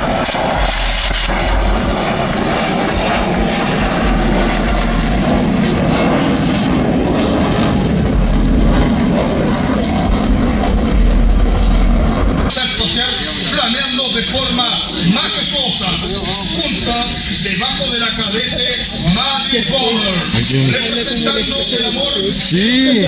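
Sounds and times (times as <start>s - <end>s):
aircraft engine overhead: 0.0s - 23.0s.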